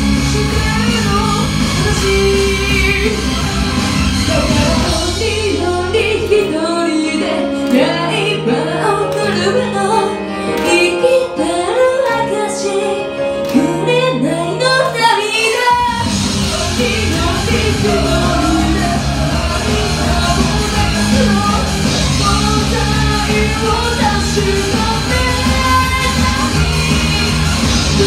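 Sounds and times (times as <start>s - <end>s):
woman singing into a microphone: 0.0s - 3.4s, 4.3s - 28.0s
loud backing track: 0.0s - 28.0s.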